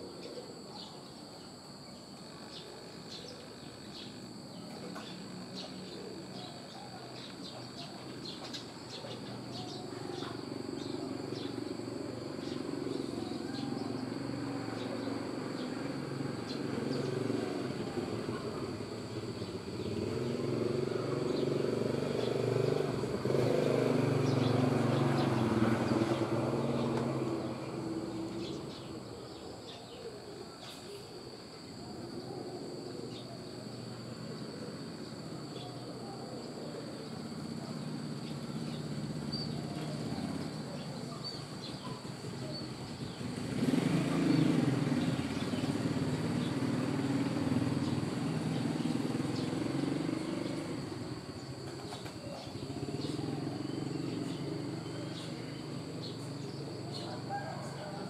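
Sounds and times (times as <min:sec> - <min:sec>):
vehicle engines passing: 0:07.3 - 0:29.4, 0:32.0 - 0:58.0.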